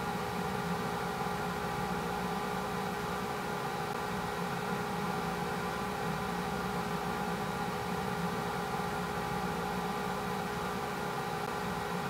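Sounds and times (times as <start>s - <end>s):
steady hum with held tones: 0.0s - 12.0s.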